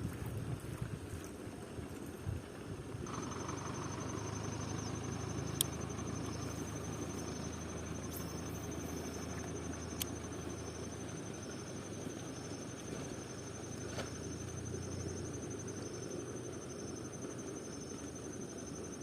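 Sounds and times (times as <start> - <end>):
low rumble and hiss: 0.0 - 19.0
insect trilling: 3.1 - 19.0.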